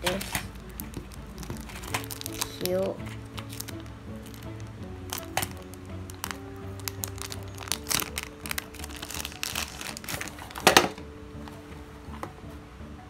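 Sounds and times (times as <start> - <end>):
plastic wrapping crinkling: 0.0 - 11.6.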